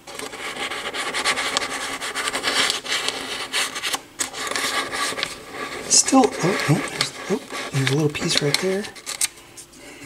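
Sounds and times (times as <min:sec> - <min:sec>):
scraping and rubbing: 0:00.0 - 0:09.4.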